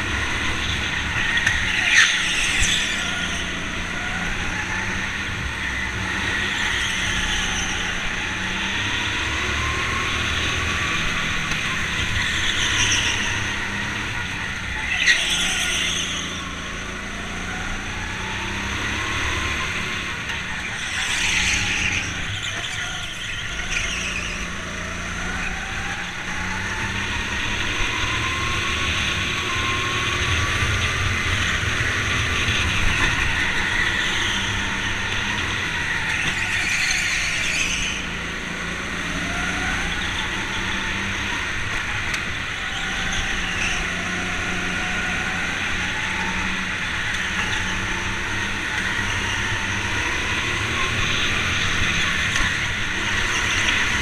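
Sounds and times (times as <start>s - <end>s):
go-kart motor revving: 0.0s - 54.0s.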